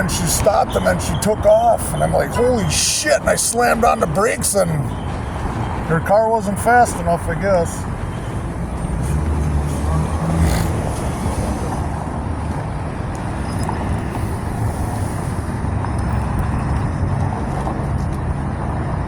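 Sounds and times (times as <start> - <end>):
engine running: 0.0 - 19.0
road traffic: 0.0 - 19.0.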